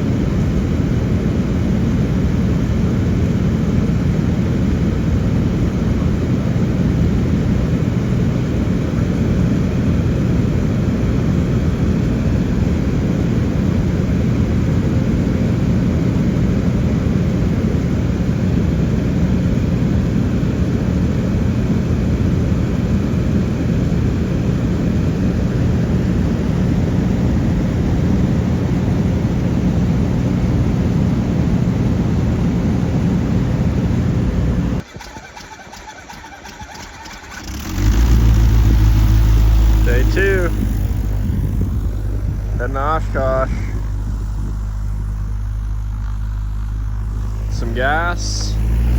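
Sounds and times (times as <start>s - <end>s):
light aircraft engine drone: 0.0s - 48.9s.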